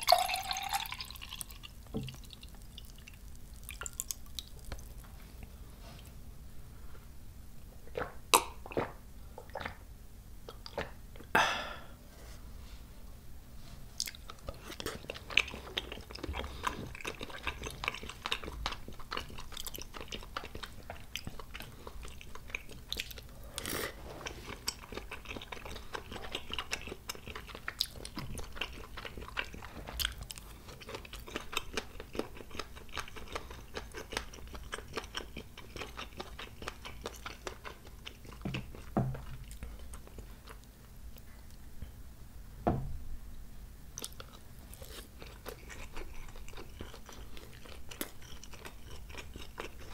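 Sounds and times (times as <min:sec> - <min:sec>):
wet chewing and mouth sounds: 0:00.0 - 0:06.1, 0:07.8 - 0:09.8, 0:14.0 - 0:41.6, 0:44.0 - 0:49.9.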